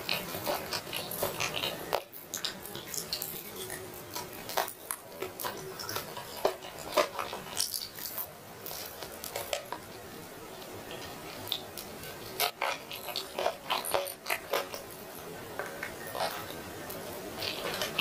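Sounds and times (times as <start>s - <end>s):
person chewing with mouth smacks: 0.0s - 18.0s
small clicks and crackles: 0.0s - 18.0s.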